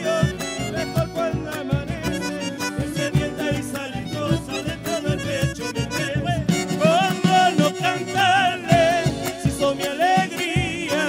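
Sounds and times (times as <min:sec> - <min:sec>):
live folk band playing: 0:00.0 - 0:11.0.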